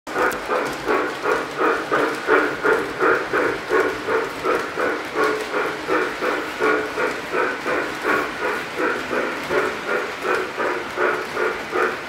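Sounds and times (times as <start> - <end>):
model steam locomotive chuffing: 0.1 - 12.0.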